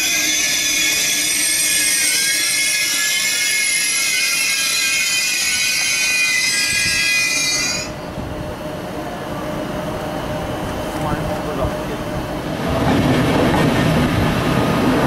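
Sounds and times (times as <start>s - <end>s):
electric train high-pitched whine: 0.0s - 12.6s
train rumbling on rails: 0.0s - 15.0s.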